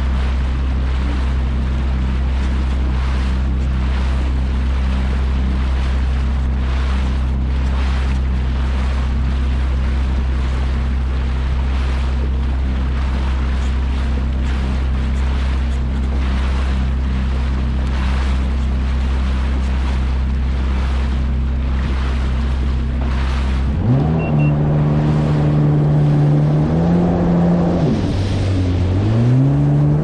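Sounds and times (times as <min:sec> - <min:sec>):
jet ski engine running: 0:00.0 - 0:30.0
water rushing: 0:00.0 - 0:30.0
wind: 0:00.0 - 0:30.0.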